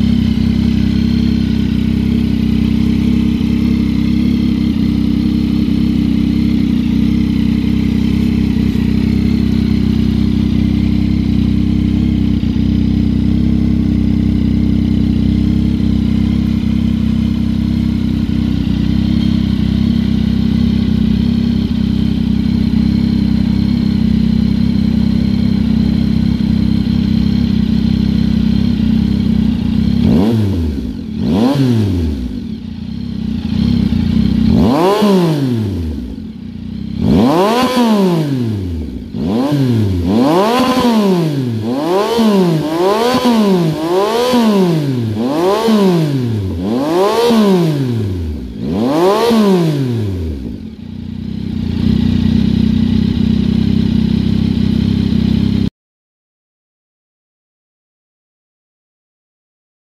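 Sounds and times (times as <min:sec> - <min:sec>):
motorcycle engine idling: 0:00.0 - 0:55.7.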